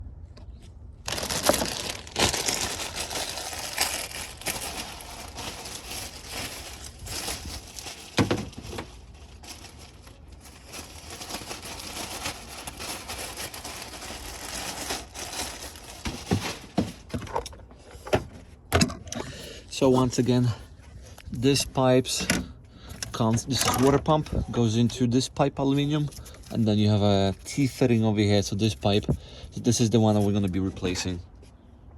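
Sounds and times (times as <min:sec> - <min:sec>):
crinkling handling noise: 0:00.2 - 0:31.9.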